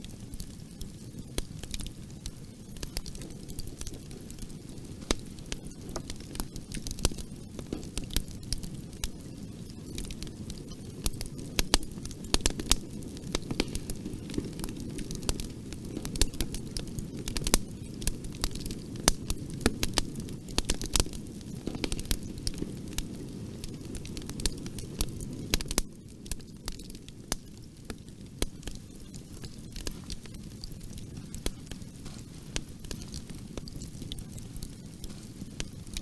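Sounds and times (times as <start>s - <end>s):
fire crackling: 0.0s - 36.0s
fire popping and snapping: 0.0s - 36.0s
low noise of flames: 0.0s - 36.0s.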